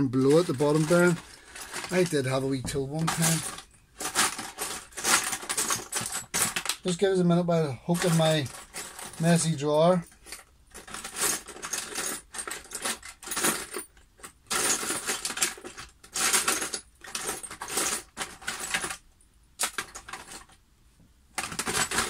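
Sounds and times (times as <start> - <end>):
metal tools clattering and jangling: 0.0 - 6.7, 7.8 - 19.0, 21.4 - 22.0.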